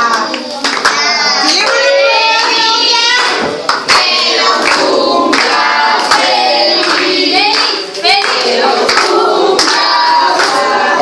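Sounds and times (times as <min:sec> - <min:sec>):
hands clapping: 0:00.0 - 0:10.8
girls singing a birthday song: 0:00.0 - 0:11.0.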